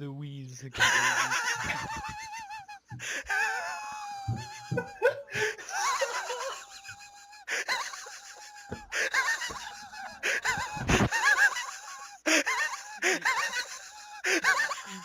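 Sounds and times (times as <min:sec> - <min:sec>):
person wheezing laughter: 0:00.8 - 0:15.0.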